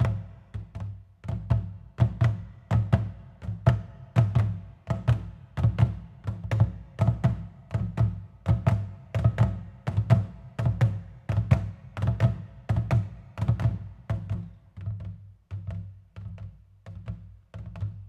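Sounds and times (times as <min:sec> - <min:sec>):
drums in a driving rhythm: 0:00.0 - 0:18.0.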